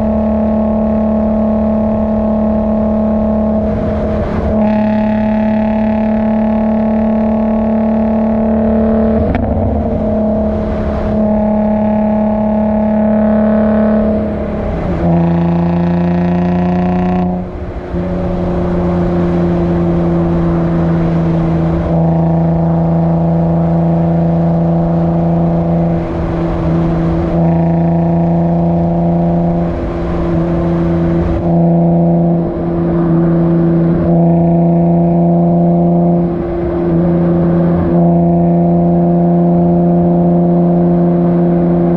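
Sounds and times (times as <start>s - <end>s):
car exhaust droning: 0.0s - 41.9s.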